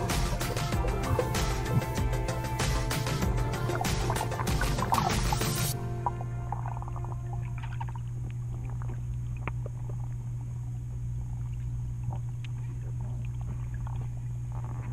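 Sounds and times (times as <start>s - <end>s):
underwater low hum: 0.0s - 14.9s.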